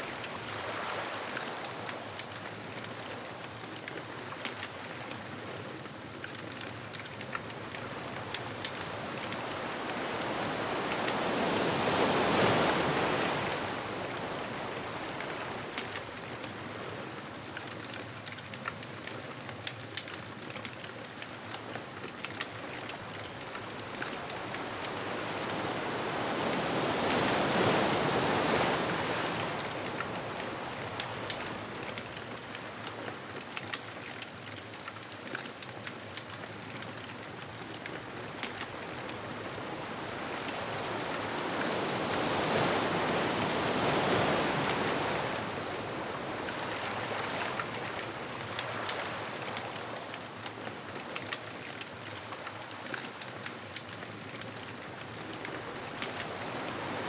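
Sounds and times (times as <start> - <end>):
ocean waves washing onto beach: 0.0 - 57.0
bonfire crackling: 0.2 - 13.4, 14.1 - 57.0.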